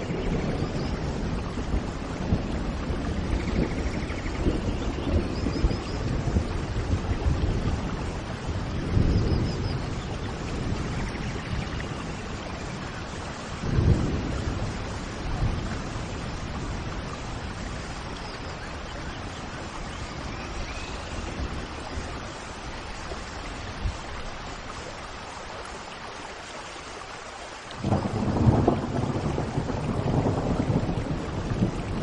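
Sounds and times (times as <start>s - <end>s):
thunder rumbling: 0.0s - 24.4s, 27.8s - 32.0s
steady rain falling: 0.0s - 32.0s.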